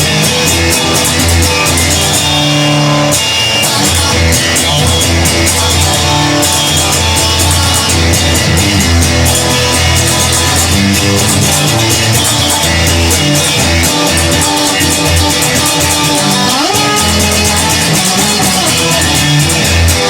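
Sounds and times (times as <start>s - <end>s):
bass line: 0.0s - 20.0s
electric guitar: 0.0s - 20.0s
guitar slide rising in pitch: 0.0s - 20.0s
instrumental rock music: 0.0s - 20.0s.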